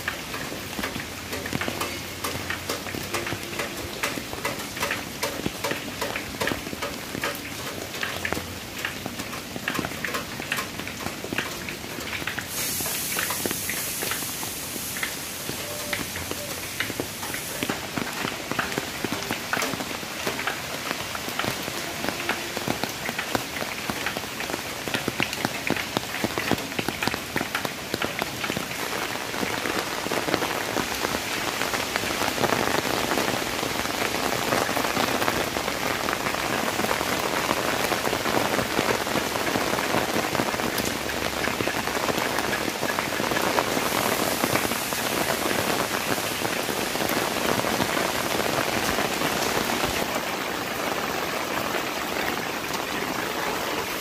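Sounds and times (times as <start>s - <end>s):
heavy rain on leaves: 0.0s - 54.0s.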